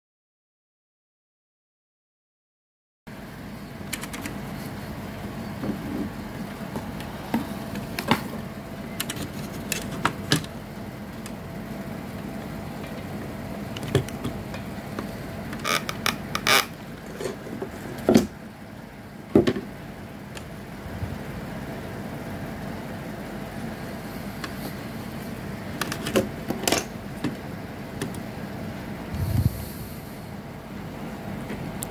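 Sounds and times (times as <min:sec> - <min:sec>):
steady low hum: 0:03.1 - 0:31.9.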